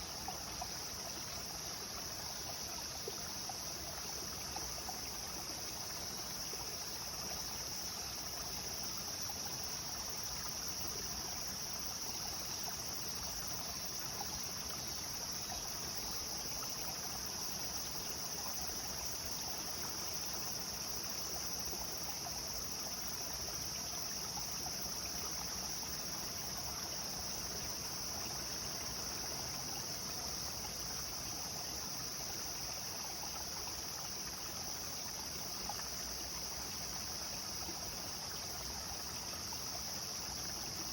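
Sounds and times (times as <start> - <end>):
high insect drone: 0.0 - 40.9
river water flowing: 0.0 - 40.9.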